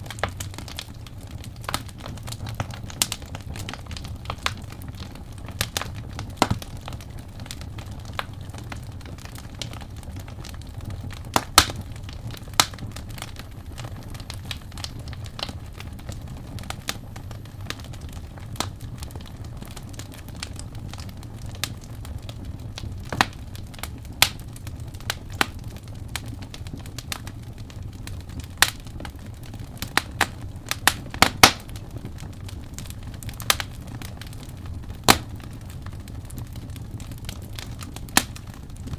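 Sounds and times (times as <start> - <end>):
fire crackling and popping: 0.0 - 38.9
fire rumbling: 0.0 - 38.9.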